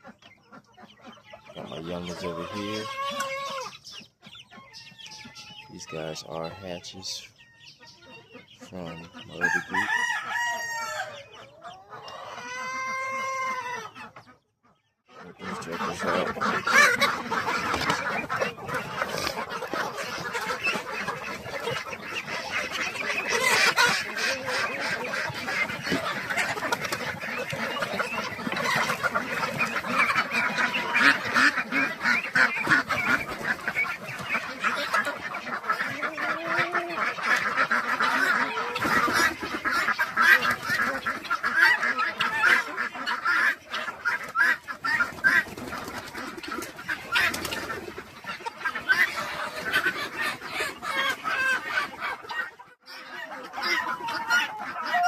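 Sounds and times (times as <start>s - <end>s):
poultry flock calling: 0.0s - 55.0s.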